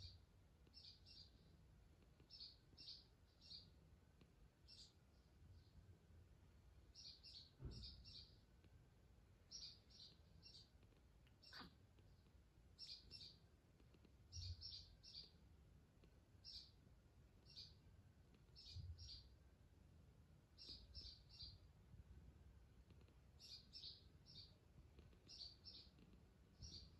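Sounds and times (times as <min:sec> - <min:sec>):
bird chirping faintly: 0:00.0 - 0:06.0, 0:06.8 - 0:19.6, 0:20.4 - 0:21.8, 0:22.8 - 0:26.9.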